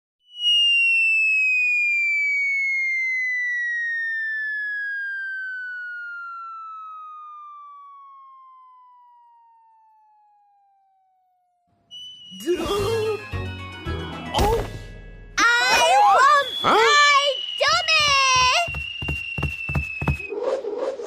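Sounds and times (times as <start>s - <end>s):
falling whistle tone: 0.2s - 11.0s, 11.8s - 13.3s, 15.5s - 20.6s.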